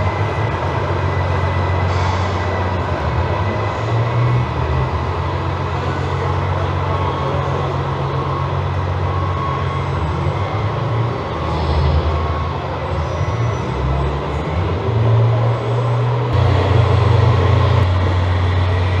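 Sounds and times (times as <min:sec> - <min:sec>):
diesel engine rumble: 0:00.0 - 0:19.0.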